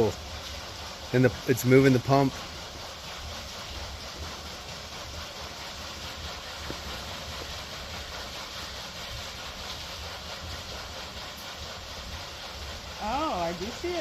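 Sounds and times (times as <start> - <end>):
water rushing over water wheel: 0.0 - 14.0.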